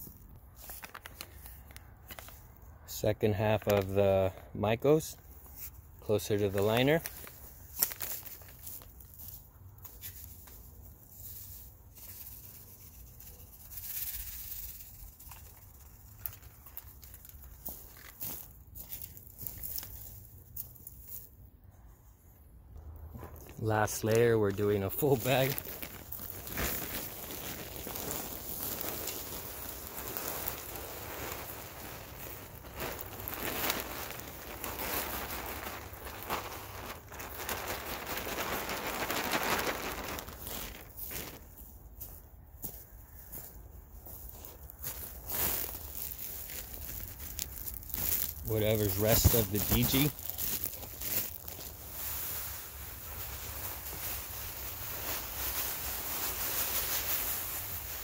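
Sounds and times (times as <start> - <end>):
powder shaken onto soil: 5.4 - 21.3, 23.2 - 41.5, 44.2 - 58.0.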